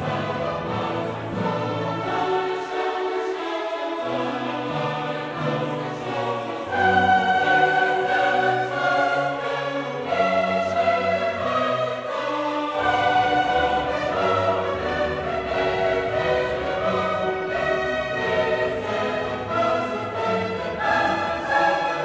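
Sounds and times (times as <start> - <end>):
choir-like singing music: 0.0 - 22.0.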